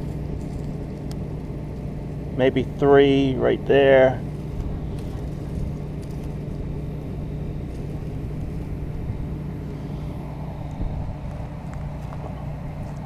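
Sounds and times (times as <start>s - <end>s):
combine engine humming: 0.0s - 13.0s.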